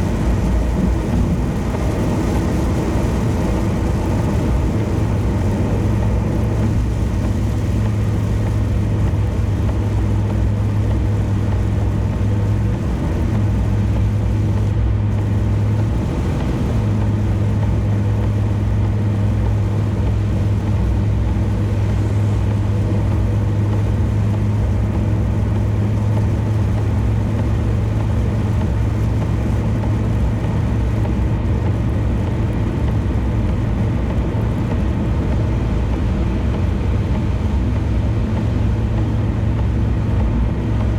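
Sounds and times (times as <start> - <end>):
car engine hum: 0.0 - 40.9
tyre and road noise: 0.0 - 40.9.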